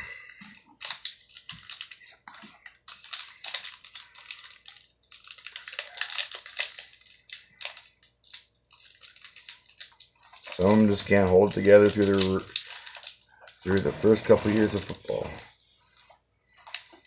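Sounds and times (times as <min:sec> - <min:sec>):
foil wrapper crinkling: 0:00.1 - 0:17.0.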